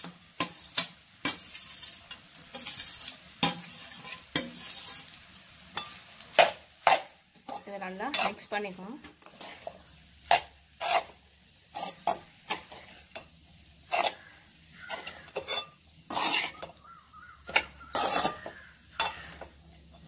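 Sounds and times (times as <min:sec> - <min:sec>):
ladle scraping metal pan: 0:00.0 - 0:05.2, 0:05.8 - 0:08.5, 0:09.2 - 0:13.3, 0:13.9 - 0:16.8, 0:17.4 - 0:20.0
light sizzle: 0:00.0 - 0:20.0.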